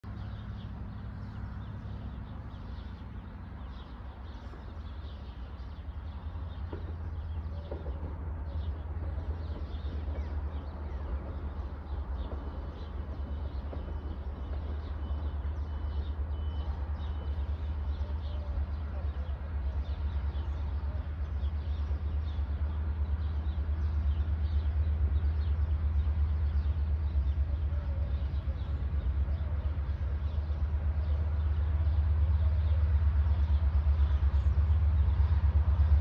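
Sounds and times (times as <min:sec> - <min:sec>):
distant diesel train rumble: 0:00.0 - 0:36.0.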